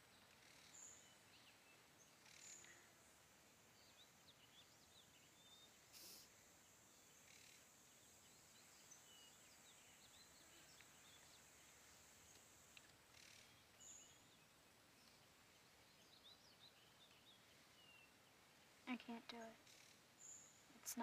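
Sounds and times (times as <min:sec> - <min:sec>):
steady high hiss: 0:00.0 - 0:21.0
small bird chirps: 0:00.2 - 0:02.9, 0:03.7 - 0:18.2.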